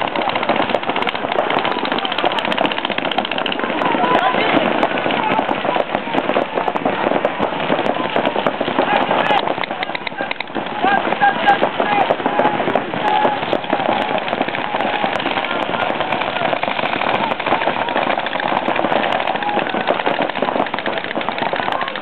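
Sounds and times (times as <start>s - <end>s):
paintball guns firing rapidly: 0.0s - 22.0s
people calling out: 3.0s - 22.0s.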